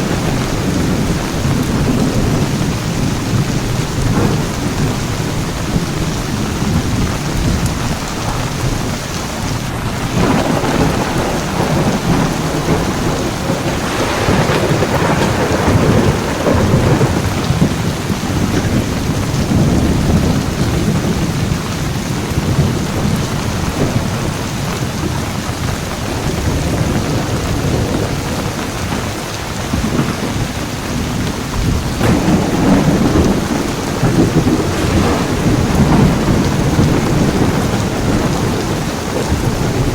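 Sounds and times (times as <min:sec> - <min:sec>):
heavy rain falling: 0:00.0 - 0:39.9
low rolling thunder: 0:00.0 - 0:39.9.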